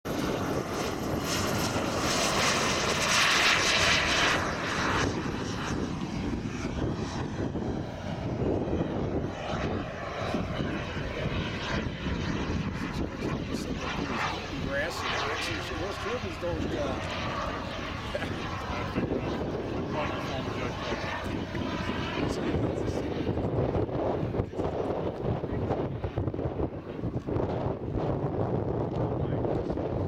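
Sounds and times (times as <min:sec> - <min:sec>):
model jet engine whine: 0:00.1 - 0:30.0.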